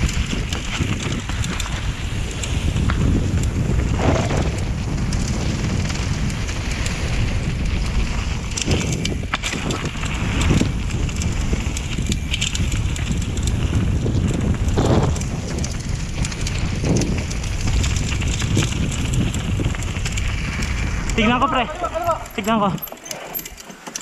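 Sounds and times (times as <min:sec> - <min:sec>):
bike clicks and rattles: 0:00.0 - 0:24.0
tyres crunching over dirt: 0:00.0 - 0:24.0
wind buffeting microphone: 0:00.0 - 0:24.0.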